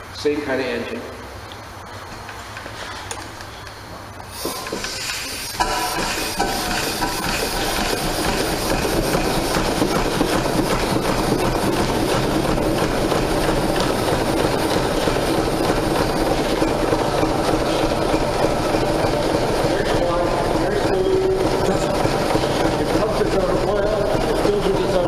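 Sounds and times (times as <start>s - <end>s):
steam engines and line shafting clatter: 1.9s - 25.0s.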